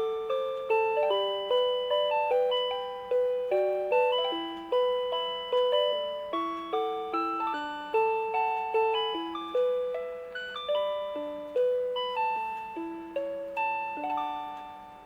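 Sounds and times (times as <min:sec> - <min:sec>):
alarm clock chime melody: 0:00.0 - 0:15.0.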